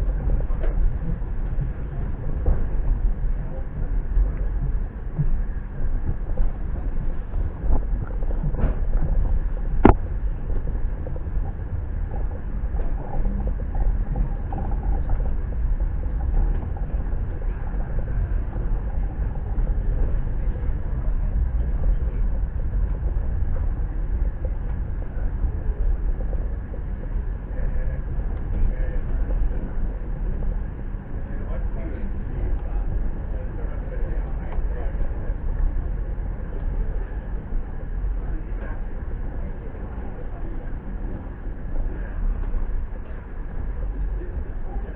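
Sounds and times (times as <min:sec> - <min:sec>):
train rumbling: 0:00.0 - 0:44.9.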